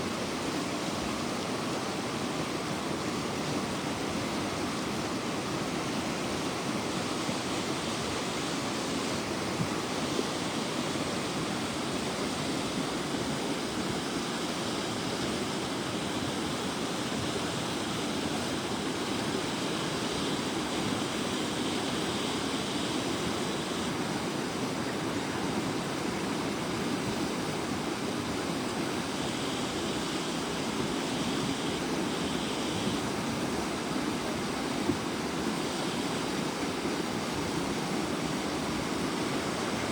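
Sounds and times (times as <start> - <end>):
flooded river rushing: 0.0 - 39.9.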